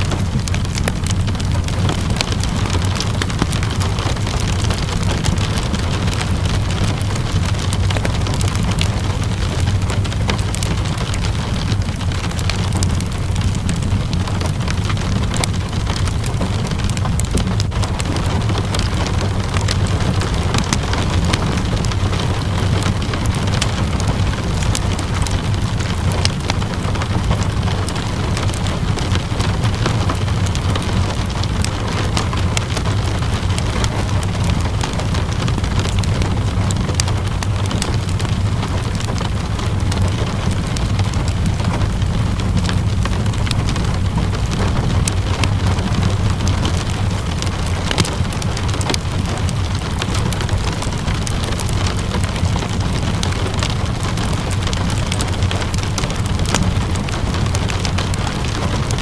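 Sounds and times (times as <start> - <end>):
steady rainfall: 0.0 - 59.0
wood fire crackling: 0.0 - 59.0.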